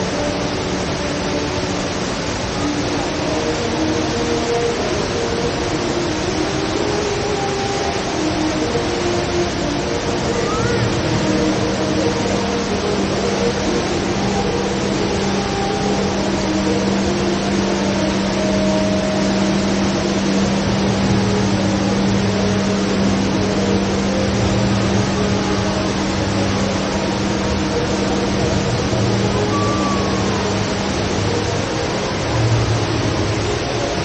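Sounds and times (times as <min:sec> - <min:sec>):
waterfall roaring into pool: 0:00.0 - 0:34.0.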